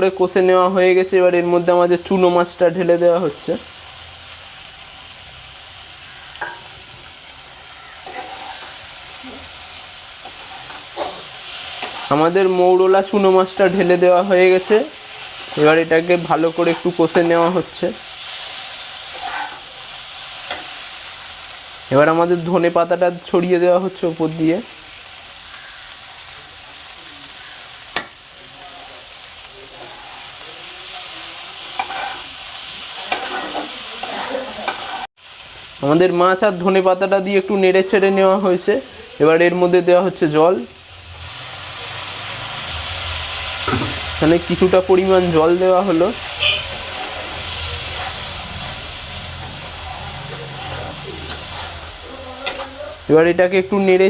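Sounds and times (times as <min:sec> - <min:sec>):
paste sizzling in hot oil: 0:00.0 - 0:54.0.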